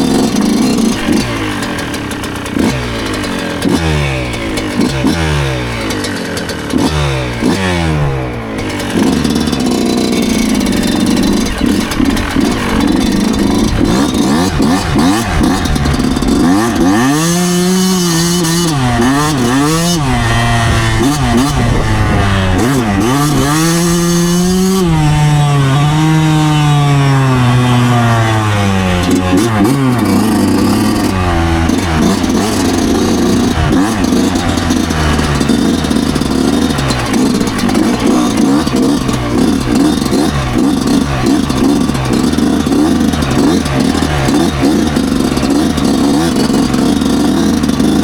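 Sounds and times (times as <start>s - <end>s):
two-stroke engine revving: 0.0s - 48.0s.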